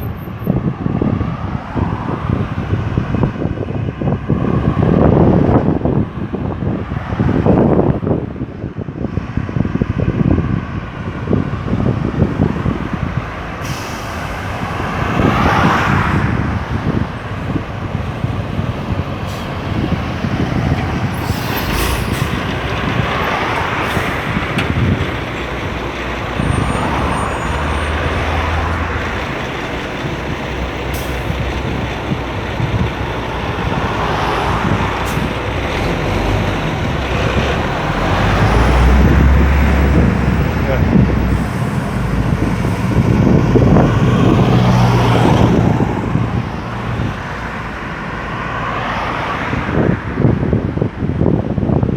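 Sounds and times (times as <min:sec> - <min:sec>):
vehicles passing on highway: 0:00.0 - 0:51.9.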